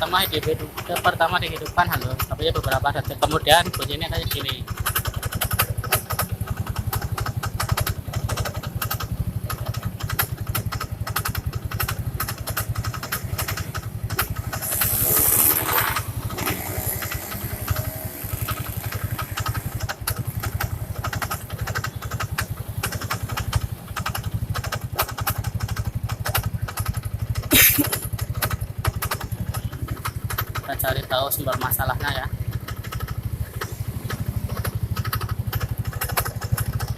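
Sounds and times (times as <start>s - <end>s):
rapid rough knocking: 0.0s - 36.9s
scooter engine idling: 0.0s - 36.9s.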